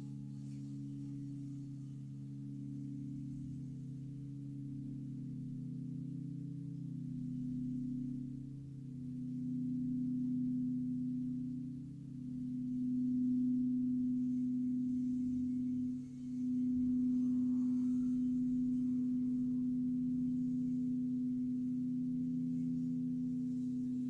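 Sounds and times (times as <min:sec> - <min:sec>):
crystal singing bowls ringing: 0:00.0 - 0:24.0.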